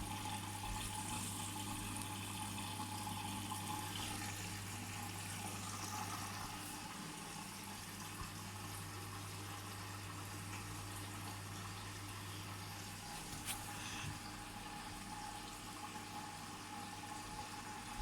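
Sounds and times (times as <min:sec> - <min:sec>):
water filling washing machine: 0:00.0 - 0:18.0.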